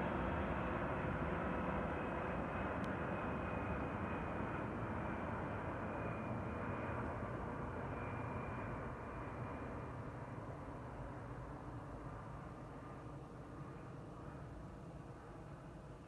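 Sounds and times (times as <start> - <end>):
jet flying over: 0.0 - 16.0.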